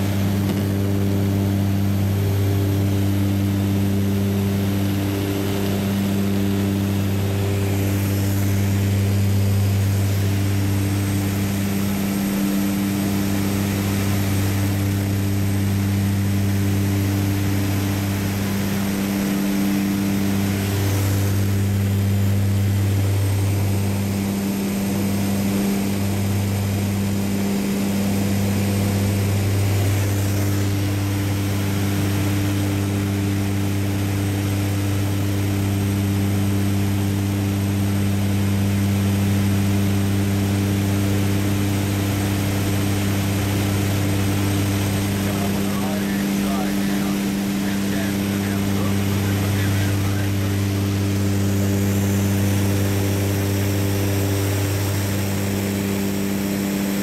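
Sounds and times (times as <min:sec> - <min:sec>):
propeller aircraft engine drone: 0:00.0 - 0:57.0.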